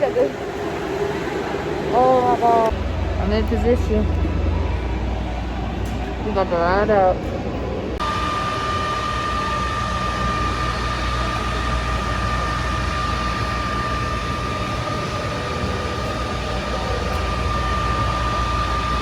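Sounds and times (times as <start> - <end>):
high-pitched whine: 0.0 - 19.0
low machine hum: 0.0 - 19.0.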